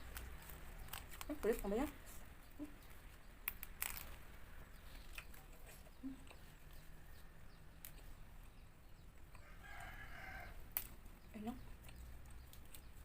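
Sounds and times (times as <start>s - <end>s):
chewing leafy greens: 0.0s - 13.0s.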